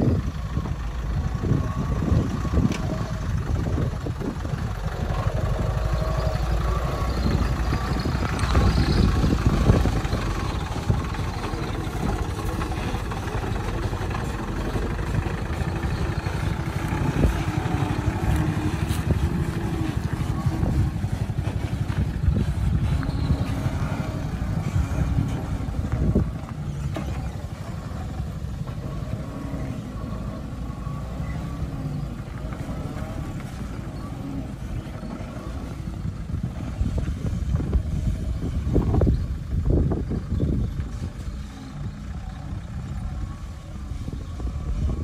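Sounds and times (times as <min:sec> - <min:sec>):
truck diesel engine running: 0:00.0 - 0:45.0.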